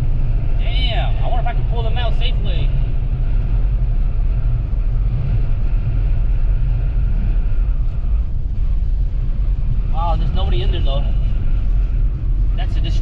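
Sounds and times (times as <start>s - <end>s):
car cabin driving rumble: 0.0s - 13.0s.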